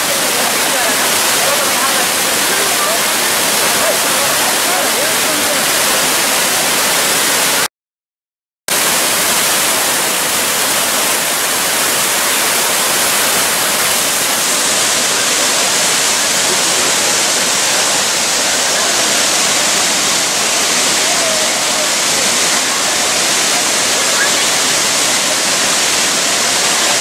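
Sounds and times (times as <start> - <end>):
waterfall roaring: 0.0 - 7.7, 8.7 - 27.0.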